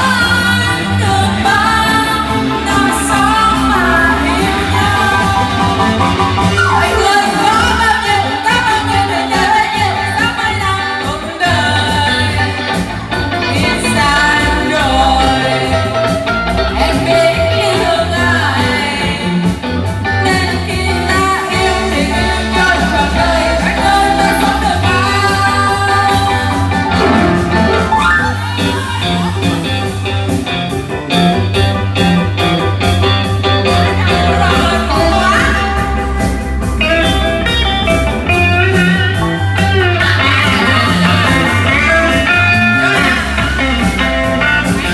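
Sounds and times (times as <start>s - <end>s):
band music: 0.0s - 44.9s.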